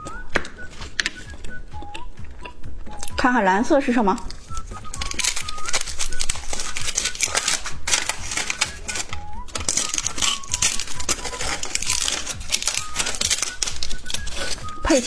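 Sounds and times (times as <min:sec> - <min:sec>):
plastic packaging crinkling: 0:00.0 - 0:03.2, 0:04.1 - 0:15.0
faint background music: 0:00.0 - 0:15.0.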